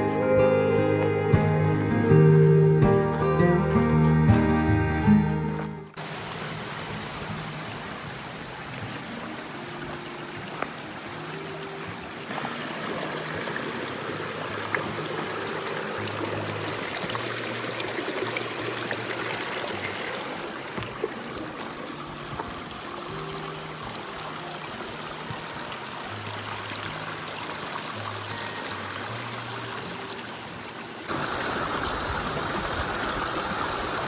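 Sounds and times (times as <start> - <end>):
mountain stream rushing: 0.0 - 34.0.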